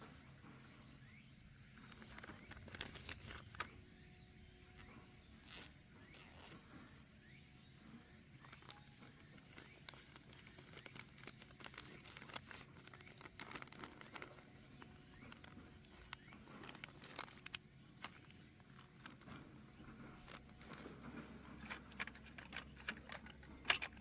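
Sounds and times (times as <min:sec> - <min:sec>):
faint clicks and crinkling: 0:00.0 - 0:24.0.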